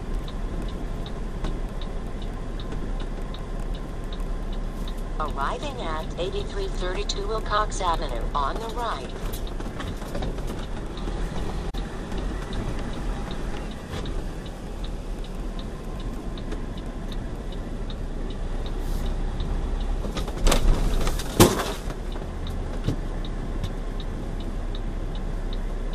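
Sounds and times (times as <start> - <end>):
truck engine running: 0.0 - 25.9
turn signal ticking: 0.0 - 25.9.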